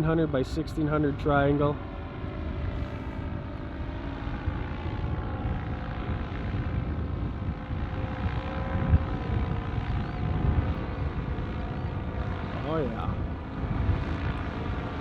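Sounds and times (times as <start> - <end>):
distant paramotor engine droning: 0.0 - 15.0
wind buffeting microphone: 0.0 - 15.0.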